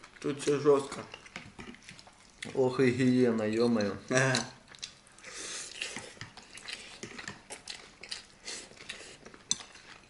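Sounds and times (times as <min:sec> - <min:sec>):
noodles slurped and chewed: 0:00.0 - 0:02.8, 0:04.7 - 0:10.0.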